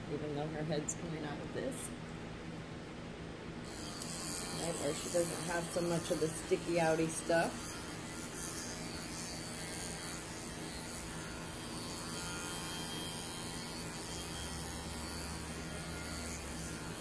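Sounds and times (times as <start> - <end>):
low electrical hum with buzz: 0.0 - 17.0.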